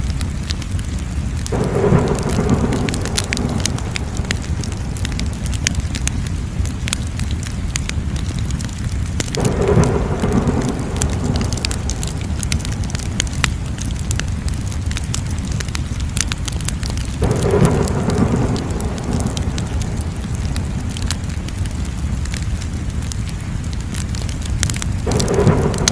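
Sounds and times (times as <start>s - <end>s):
wood fire crackling: 0.0s - 25.9s
rushing surge of flames: 0.3s - 25.9s.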